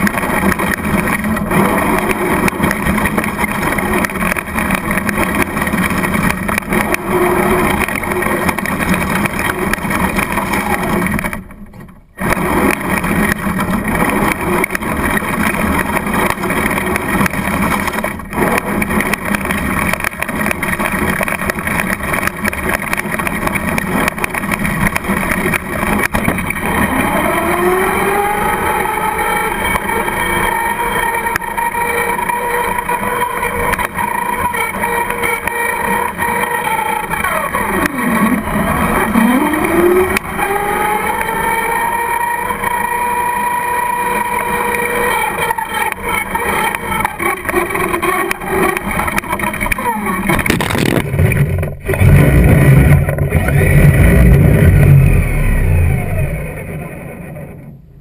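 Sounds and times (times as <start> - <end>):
electric motor whine: 0.0 - 11.6, 12.2 - 57.8.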